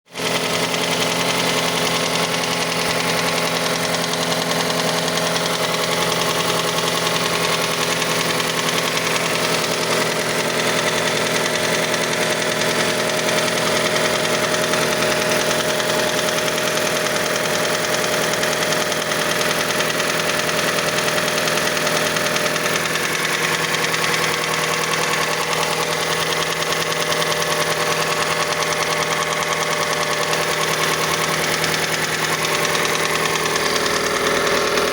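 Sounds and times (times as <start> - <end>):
car engine idling: 0.1 - 34.9
rapid engine knock: 0.1 - 34.9.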